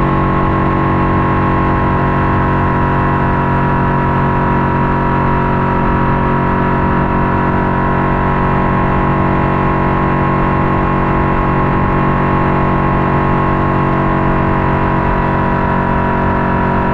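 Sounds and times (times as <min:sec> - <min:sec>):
boat motor droning: 0:00.0 - 0:16.9.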